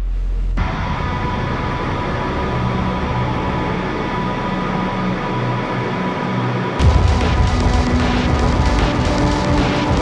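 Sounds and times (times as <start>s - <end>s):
deep bass drone: 0.0s - 10.0s
dense rushing noise with hum: 0.0s - 10.0s.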